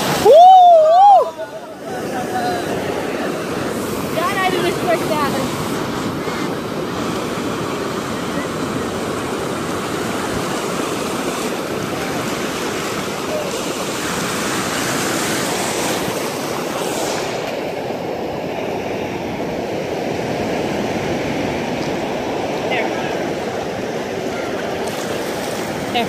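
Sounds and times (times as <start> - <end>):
surf washing over sand: 0.0 - 26.0.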